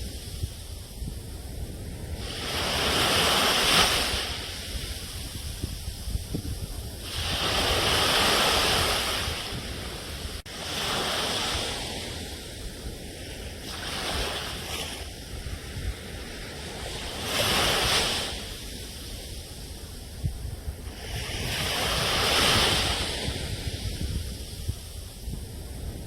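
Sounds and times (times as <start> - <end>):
sea waves washing onto shore: 0.0 - 26.0.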